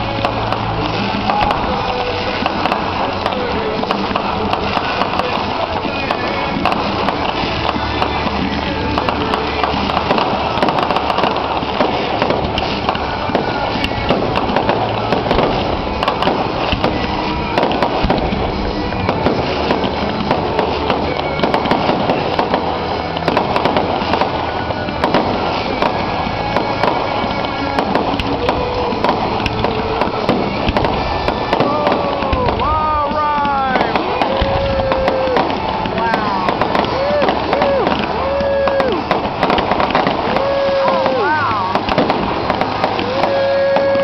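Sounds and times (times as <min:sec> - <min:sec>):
fireworks bangs and crackles: 0:00.0 - 0:44.0
music playing: 0:00.0 - 0:44.0.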